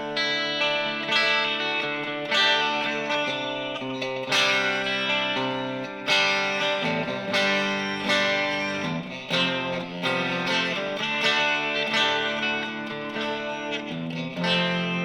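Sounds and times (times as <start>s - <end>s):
electric guitar chords with delay: 0.0s - 15.0s.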